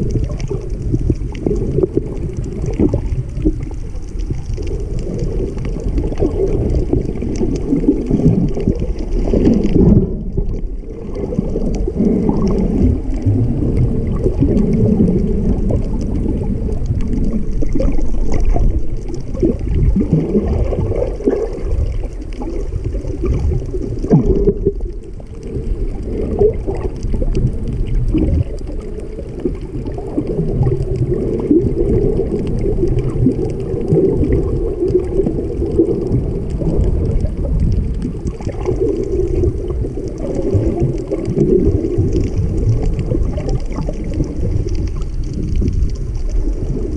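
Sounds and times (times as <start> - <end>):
underwater water gurgling: 0.0 - 46.9.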